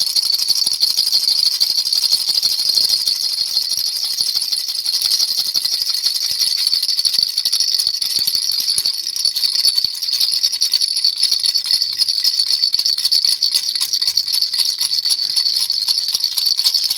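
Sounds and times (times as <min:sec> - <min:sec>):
baby rattle jingling: 0:00.0 - 0:00.2, 0:01.8 - 0:16.9.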